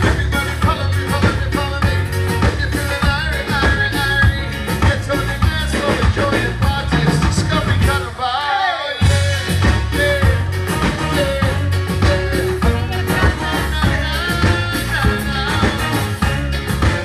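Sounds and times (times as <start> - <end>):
live band playing dance music: 0.0 - 17.0
person singing: 0.0 - 17.0.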